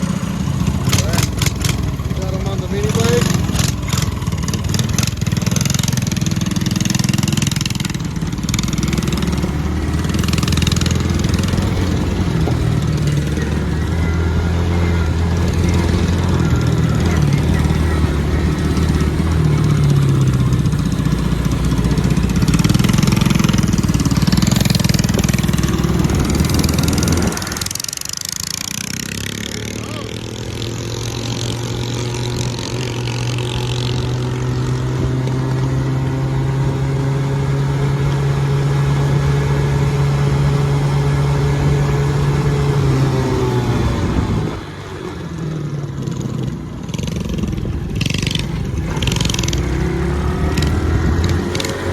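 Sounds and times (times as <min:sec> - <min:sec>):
small engine running hard: 0:00.0 - 0:51.9.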